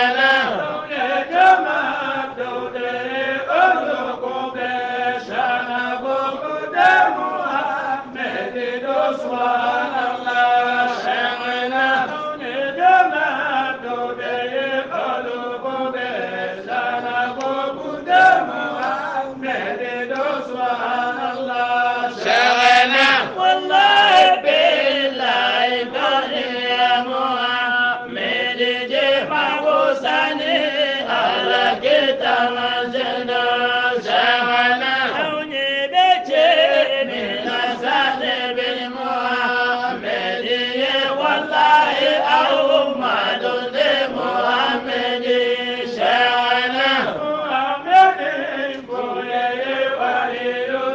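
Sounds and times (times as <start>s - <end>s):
person chanting devotional poem: 0.0s - 50.9s.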